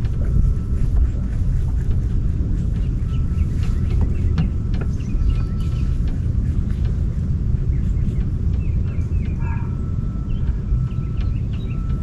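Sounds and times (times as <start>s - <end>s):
wind rumble on microphone: 0.0s - 12.0s
small birds chirping: 0.1s - 12.0s.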